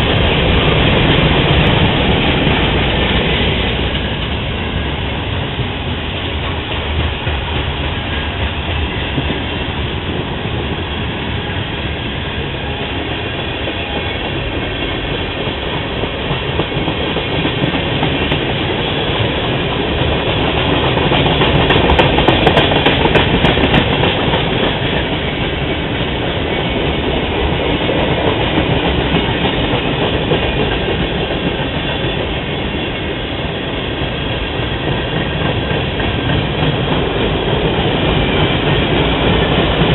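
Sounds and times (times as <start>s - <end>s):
clickety-clack over rail joints: 0.0s - 10.9s, 12.6s - 39.9s
train wheels rumbling on rails: 0.0s - 39.9s.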